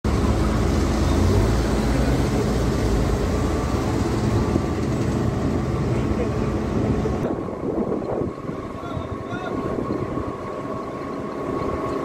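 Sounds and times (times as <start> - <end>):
heavy diesel engine running: 0.0 - 12.0
outdoor site noise: 0.0 - 12.0.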